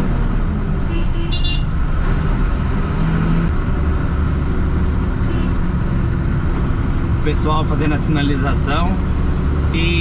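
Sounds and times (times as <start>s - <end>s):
engine and road noise in cab: 0.0s - 10.0s.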